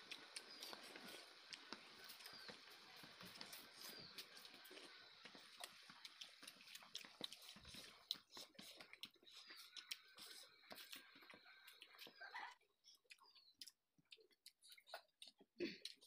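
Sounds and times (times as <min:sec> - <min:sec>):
chewing and lip smacking: 0:00.0 - 0:16.0.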